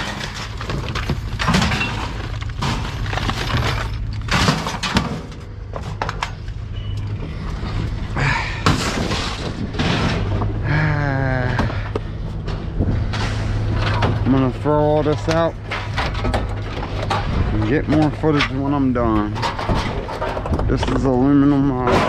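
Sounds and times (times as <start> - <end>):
scrap metal clanking onto pile: 0.0 - 6.4, 8.6 - 10.6, 12.4 - 22.0
low steady hum: 0.0 - 22.0.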